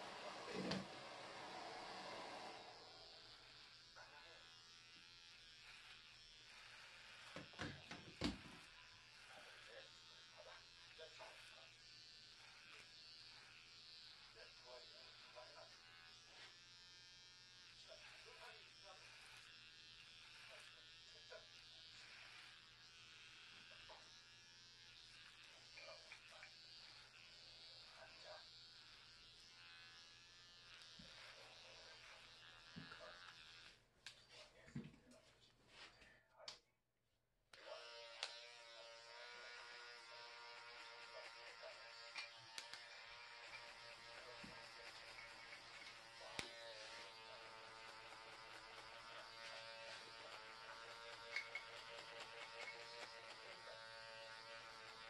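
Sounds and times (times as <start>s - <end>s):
electric hair clippers buzzing: 0.0s - 33.8s, 37.6s - 55.0s.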